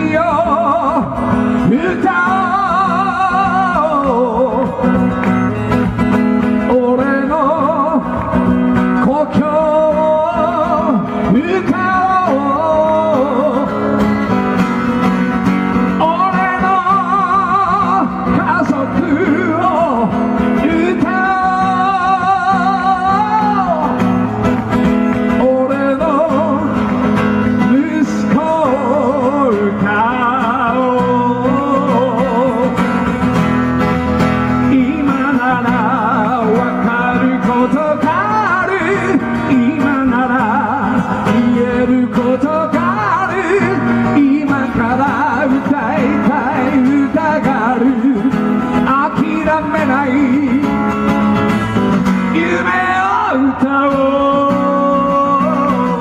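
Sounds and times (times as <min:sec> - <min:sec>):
guitar accompaniment: 0:00.0 - 0:56.0
man singing: 0:00.0 - 0:56.0.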